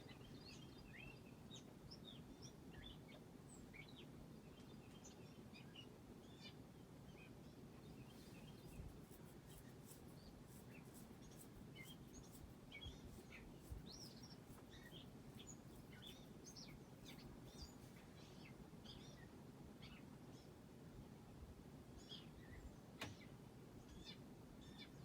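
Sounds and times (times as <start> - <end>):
small birds chirping: 0.0 - 20.7, 21.9 - 25.0.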